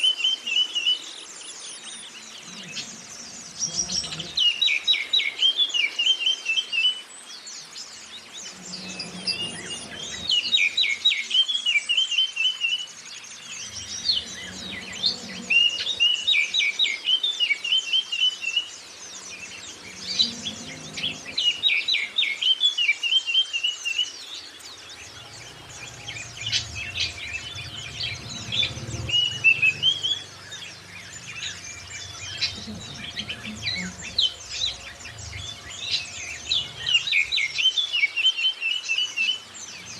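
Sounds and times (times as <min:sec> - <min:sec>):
songbird singing loud phrases: 0:00.0 - 0:39.9.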